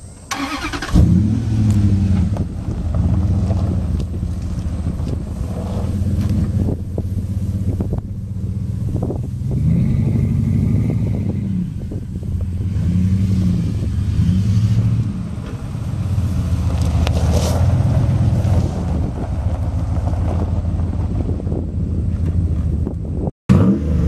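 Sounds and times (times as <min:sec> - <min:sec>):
engine revving: 0:00.3 - 0:24.0.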